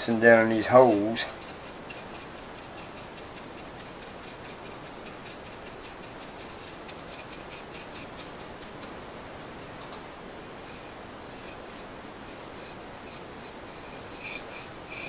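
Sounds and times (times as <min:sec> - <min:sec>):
brush scrubbing wood: 0:00.0 - 0:09.1, 0:10.6 - 0:15.0
steady hiss: 0:00.0 - 0:15.0.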